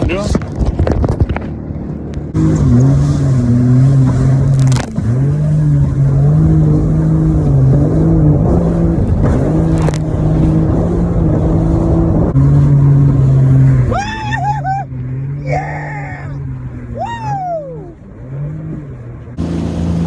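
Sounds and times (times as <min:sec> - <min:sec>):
jet ski engine drone: 0:00.0 - 0:20.0.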